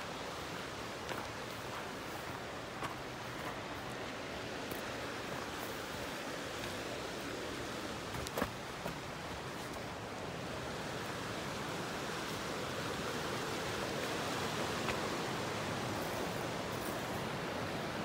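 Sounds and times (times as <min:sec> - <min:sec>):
creek water flowing over rocks: 0:00.0 - 0:18.0.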